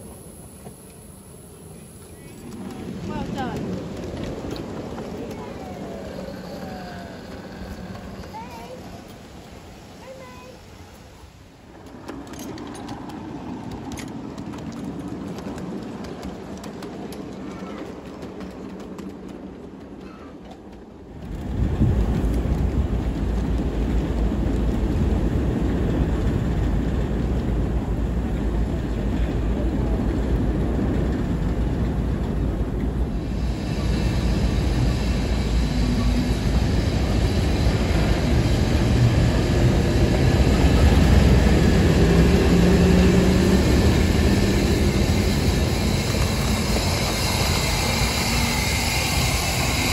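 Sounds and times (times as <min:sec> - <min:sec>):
diesel locomotive engine rumbling: 0:00.0 - 0:49.9.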